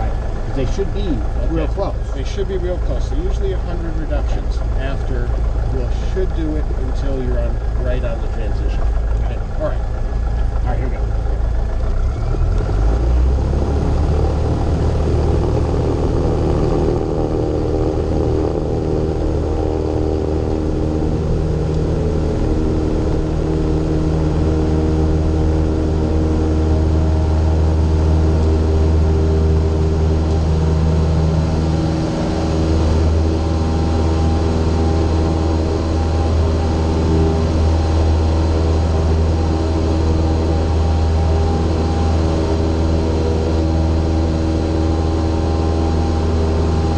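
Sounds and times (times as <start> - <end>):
light aircraft engine drone: 0.0 - 46.9.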